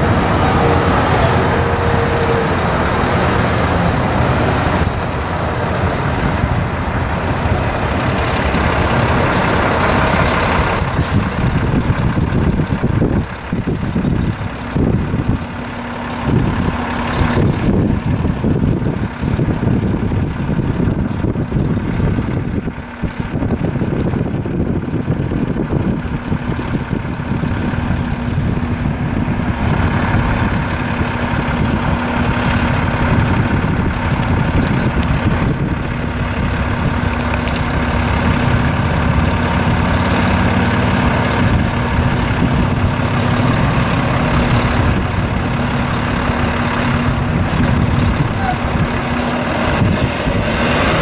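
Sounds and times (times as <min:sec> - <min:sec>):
cars passing and idling: 0:00.0 - 0:51.0
truck engine idling: 0:00.0 - 0:51.0.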